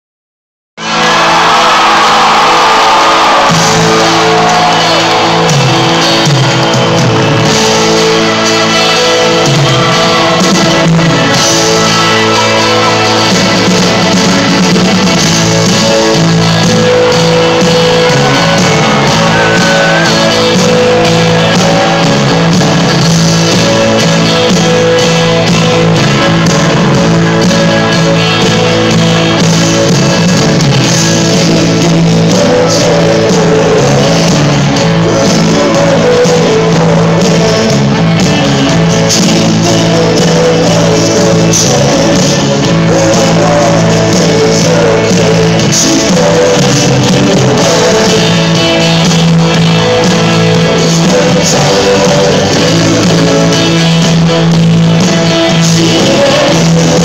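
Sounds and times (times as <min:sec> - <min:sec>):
live band playing amplified music: 0:00.8 - 0:57.0.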